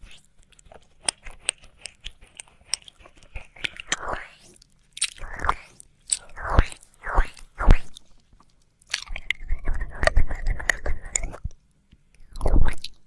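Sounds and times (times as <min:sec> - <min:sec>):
tongue and lip clicks: 0:00.0 - 0:11.6, 0:12.2 - 0:13.0.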